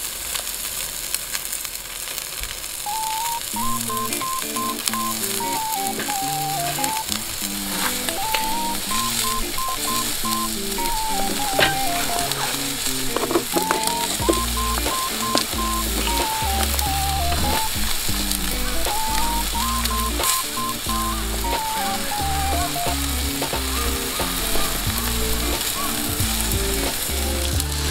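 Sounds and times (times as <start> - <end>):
skewers sizzling on a grill: 0.0 - 27.9
background music: 2.9 - 27.9.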